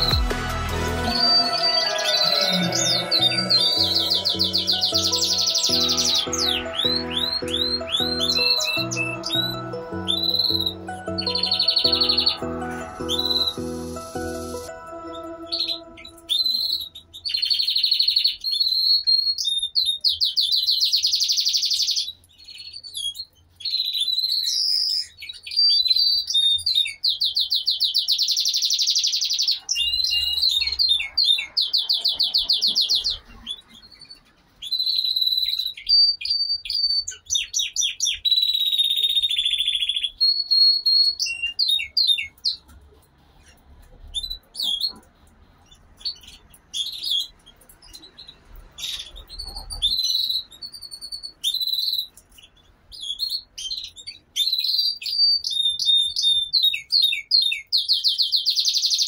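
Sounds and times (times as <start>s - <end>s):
canaries singing trills: 0.0s - 59.0s
canary chirps: 0.0s - 59.0s.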